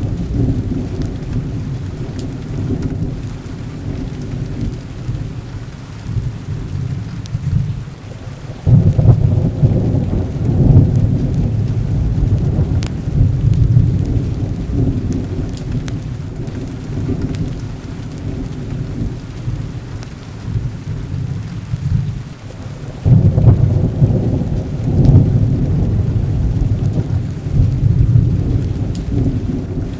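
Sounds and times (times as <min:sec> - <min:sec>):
deep rolling thunder: 0:00.0 - 0:07.8, 0:08.6 - 0:29.9
heavy rain: 0:00.0 - 0:29.9.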